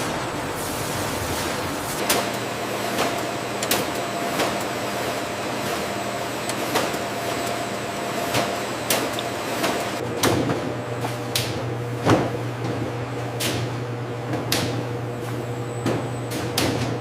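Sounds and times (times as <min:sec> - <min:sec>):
factory machinery humming: 0:00.0 - 0:17.0.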